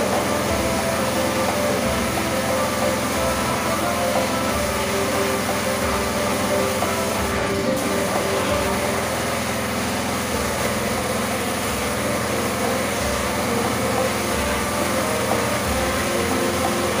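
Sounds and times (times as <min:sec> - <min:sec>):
pressure washer spraying: 0:00.0 - 0:17.0.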